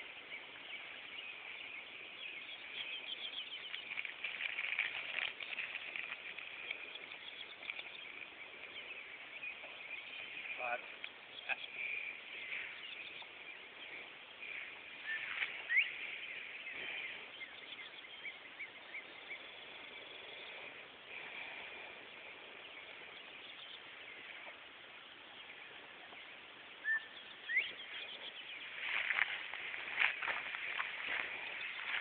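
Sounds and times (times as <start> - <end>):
rustling footsteps through grass: 0.0 - 19.3, 21.1 - 32.0
birds chirping: 0.0 - 32.0
faint high background hiss: 0.0 - 32.0.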